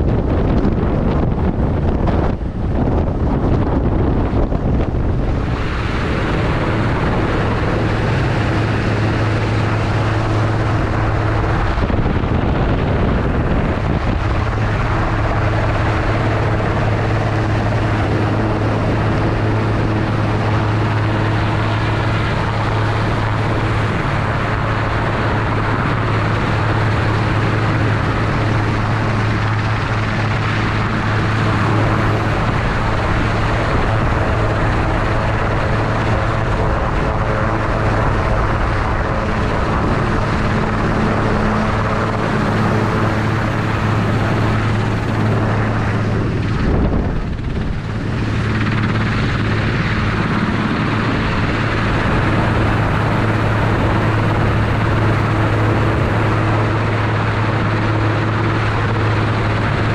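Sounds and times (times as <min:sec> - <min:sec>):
helicopter running overhead: 0:00.0 - 0:59.9.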